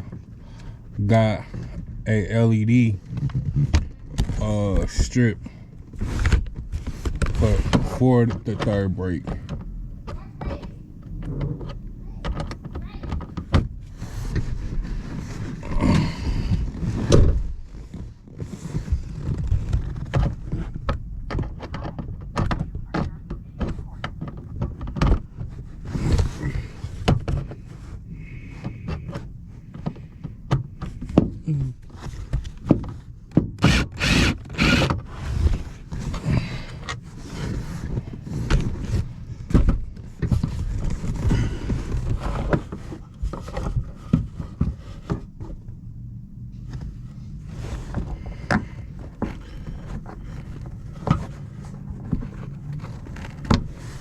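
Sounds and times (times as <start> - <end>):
steady low rumble: 0.0 - 54.0
hands knocking and scraping plastic: 2.9 - 45.8, 46.6 - 54.0.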